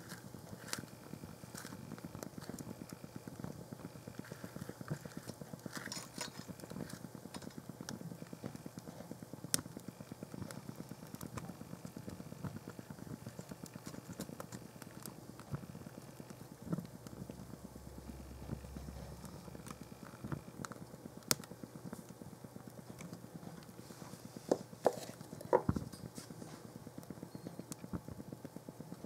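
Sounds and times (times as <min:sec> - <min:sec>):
open fire crackling and popping: 0:00.0 - 0:29.0.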